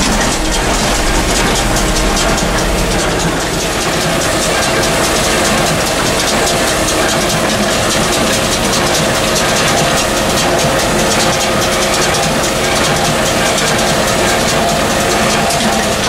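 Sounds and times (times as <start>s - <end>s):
baler mechanical clatter: 0.0s - 16.0s
tractor engine drone: 0.0s - 16.0s.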